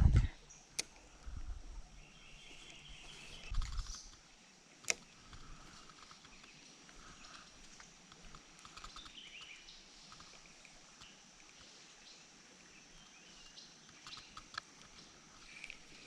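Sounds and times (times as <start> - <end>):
birds chirping: 1.8 - 4.3, 4.9 - 16.0.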